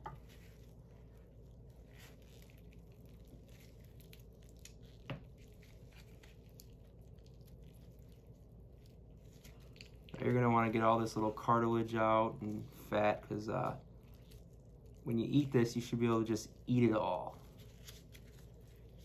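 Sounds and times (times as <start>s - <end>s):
gloved hands handling raw meat: 0.0s - 19.0s.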